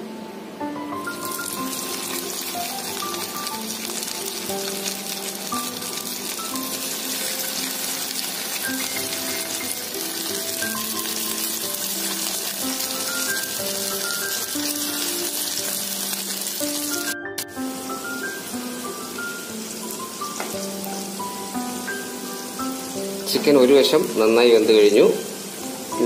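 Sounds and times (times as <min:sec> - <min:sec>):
chicken deep-frying in oil: 0:01.0 - 0:26.0.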